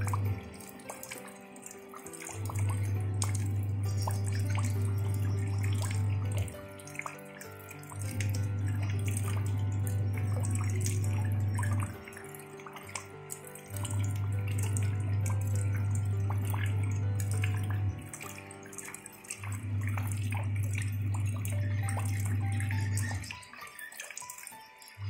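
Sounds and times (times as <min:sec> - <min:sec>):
music of long low notes: 0:00.0 - 0:23.4
rain falling on shallow water: 0:00.0 - 0:25.0.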